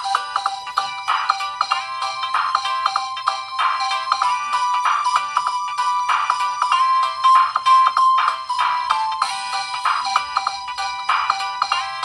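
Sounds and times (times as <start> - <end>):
electronic phone ringtone: 0.0 - 12.0.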